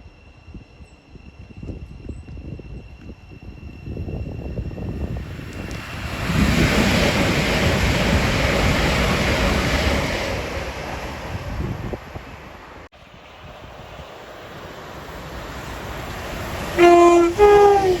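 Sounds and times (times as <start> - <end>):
train rushing past: 0.0 - 18.0.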